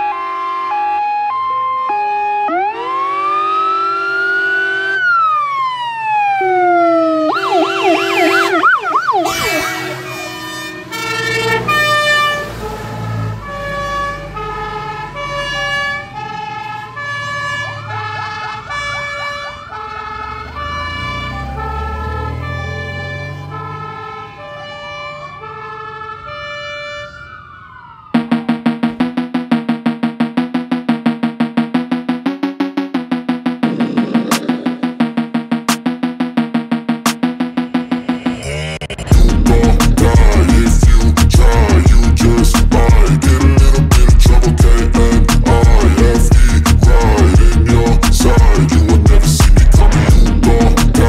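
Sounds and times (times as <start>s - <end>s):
fire engine sirens: 0.0s - 51.0s
truck engines driving past: 0.5s - 51.0s.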